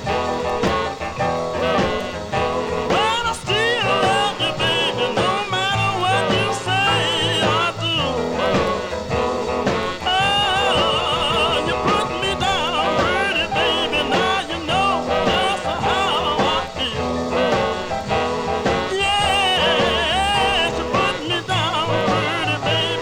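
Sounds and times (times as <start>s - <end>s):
instrumental accompaniment: 0.0s - 23.0s
person singing with vibrato: 0.0s - 23.0s.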